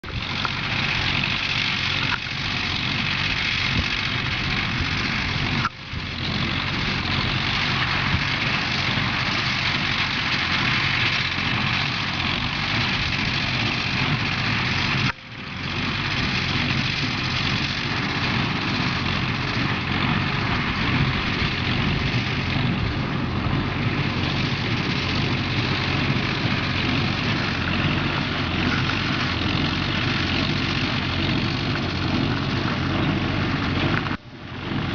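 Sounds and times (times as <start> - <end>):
tractor engine under load: 0.0 - 34.9.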